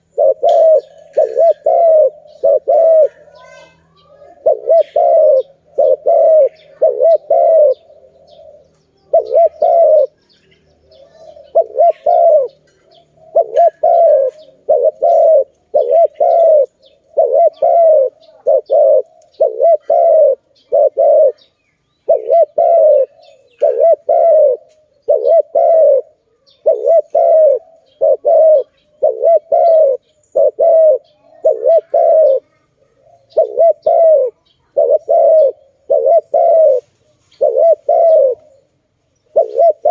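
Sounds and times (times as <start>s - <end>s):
dove cooing: 0.0s - 10.2s, 10.8s - 39.9s.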